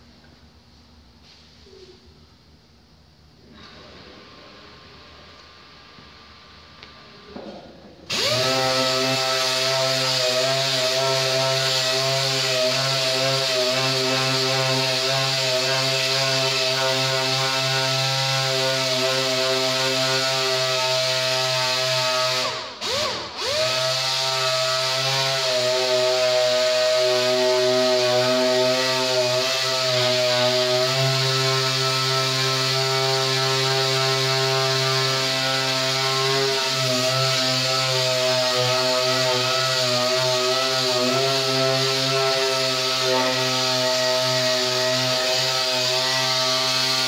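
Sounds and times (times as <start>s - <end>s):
air sander running: 8.1s - 47.0s.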